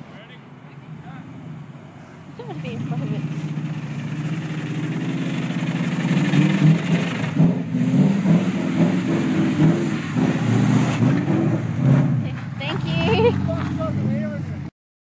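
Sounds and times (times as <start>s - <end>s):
engine revving: 2.4s - 14.7s.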